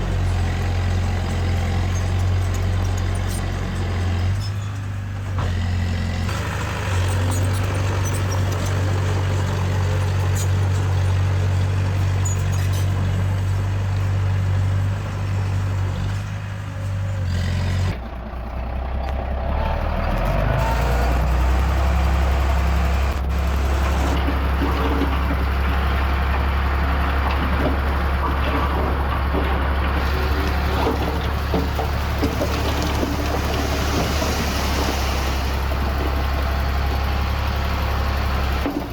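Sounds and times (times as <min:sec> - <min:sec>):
heavy machinery diesel engines: 0:00.0 - 0:38.9.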